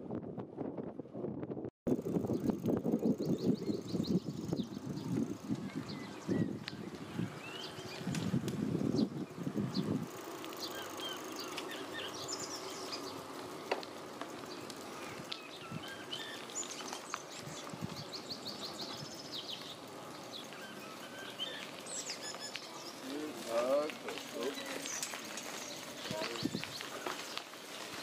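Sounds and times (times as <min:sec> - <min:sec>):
songbirds singing and chirping: 0:02.0 - 0:27.9.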